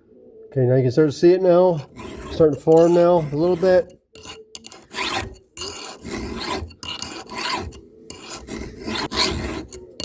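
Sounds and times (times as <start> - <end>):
file rasping on saw chain: 1.8 - 10.0.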